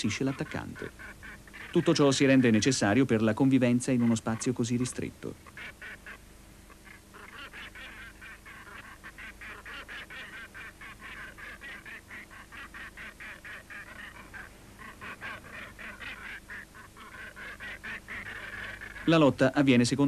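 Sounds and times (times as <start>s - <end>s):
gannets calling: 0.0s - 20.0s.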